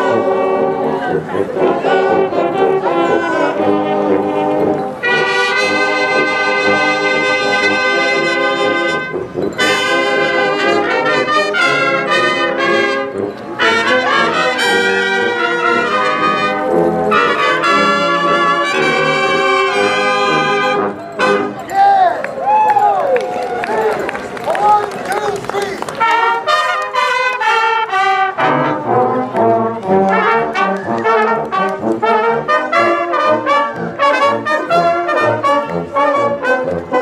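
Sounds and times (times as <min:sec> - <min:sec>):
marching brass band playing: 0:00.0 - 0:21.7, 0:23.8 - 0:37.0.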